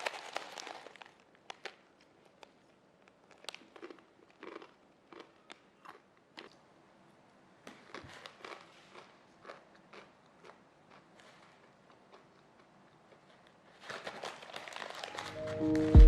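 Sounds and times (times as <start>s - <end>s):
irregular crunching and clicking: 0.0s - 6.6s, 7.8s - 16.0s.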